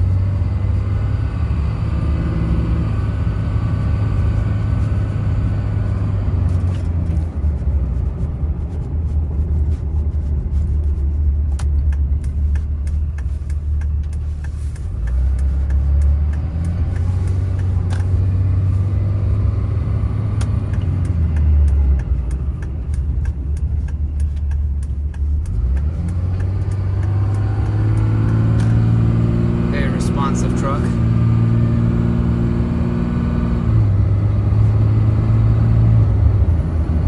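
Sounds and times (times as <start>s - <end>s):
diesel truck engine rumble: 0.0s - 37.0s.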